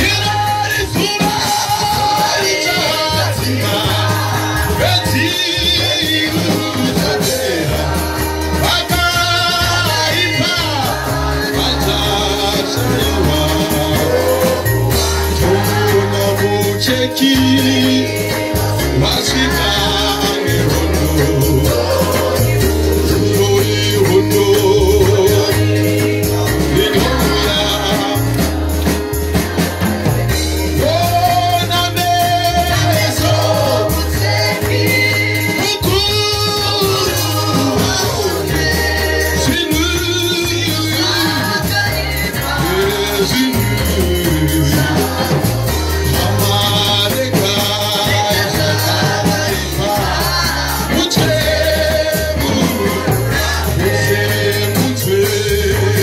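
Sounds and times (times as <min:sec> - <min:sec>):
man singing through a microphone: 0:00.0 - 0:56.0
rattling shaker percussion: 0:00.0 - 0:56.0
steady bass line: 0:00.0 - 0:56.0.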